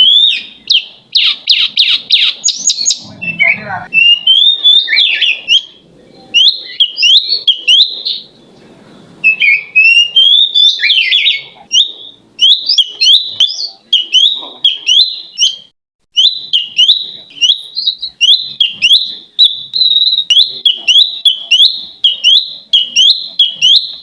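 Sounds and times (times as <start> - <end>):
songbird whistling: 0.0 - 8.5, 9.2 - 24.0.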